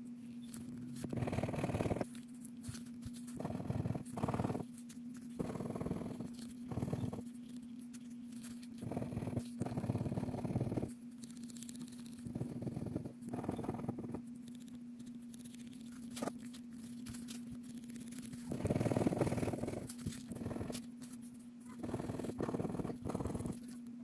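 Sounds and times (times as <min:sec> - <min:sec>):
steady low hum: 0:00.0 - 0:24.0
scratching lottery ticket: 0:00.3 - 0:23.9.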